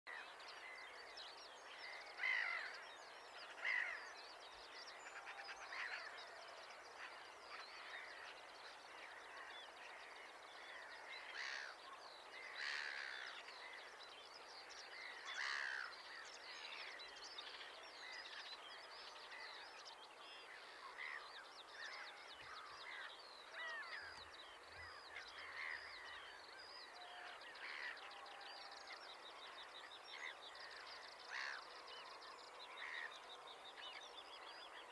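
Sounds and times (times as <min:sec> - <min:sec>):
birds calling and chattering: 0:00.1 - 0:34.9
faint background hiss: 0:00.1 - 0:34.9.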